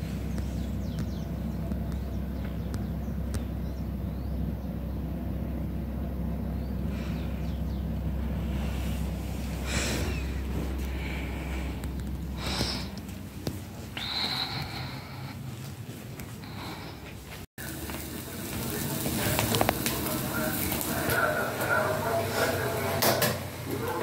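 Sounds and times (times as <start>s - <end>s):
distant traffic rumble: 0.0s - 24.0s.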